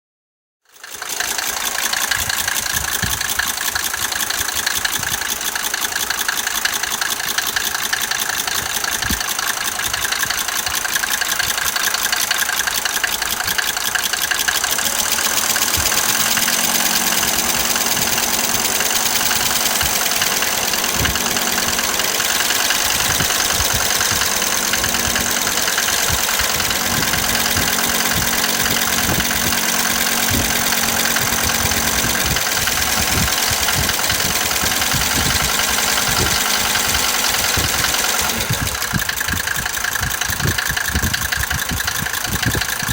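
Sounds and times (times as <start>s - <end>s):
diesel engine idling: 0.7s - 42.9s.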